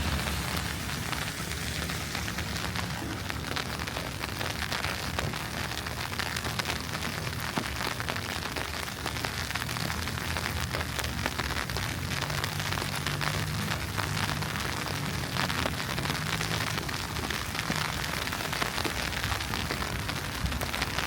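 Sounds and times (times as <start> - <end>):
wet snow pattering on street: 0.0 - 21.0.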